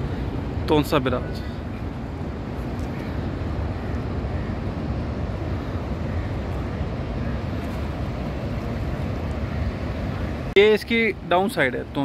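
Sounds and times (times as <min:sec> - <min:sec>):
wind buffeting microphone: 0:00.0 - 0:10.6
river flowing: 0:00.0 - 0:12.0.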